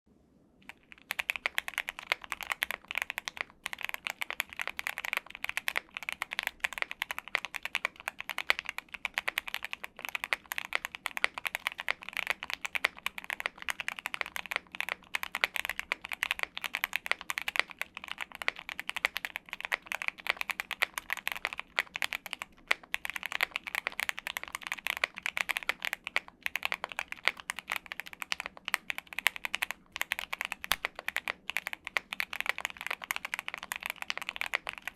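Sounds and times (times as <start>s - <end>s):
mechanical keyboard typing: 0.6s - 34.9s.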